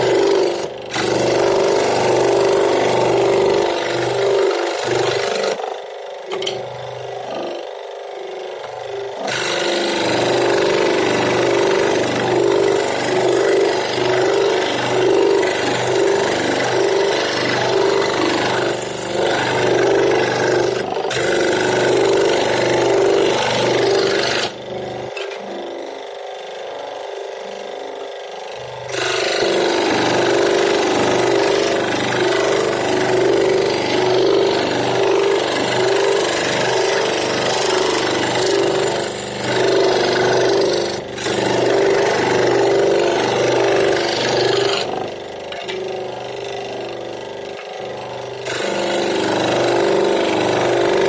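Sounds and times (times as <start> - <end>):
power tool grinding wood: 0.0 - 51.0.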